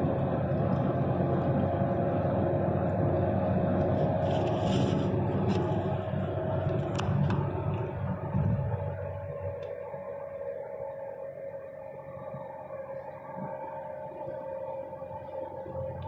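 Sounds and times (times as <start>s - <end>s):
low road rumble: 0.0s - 16.0s
steady humming tone: 0.0s - 16.0s.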